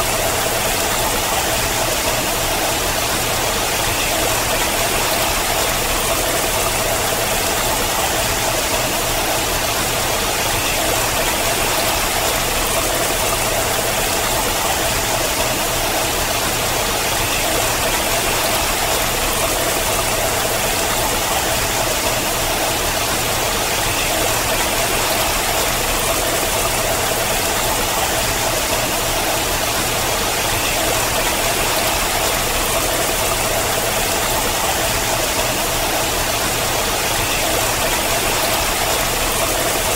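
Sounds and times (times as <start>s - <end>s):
water cascading down rock: 0.0s - 39.9s.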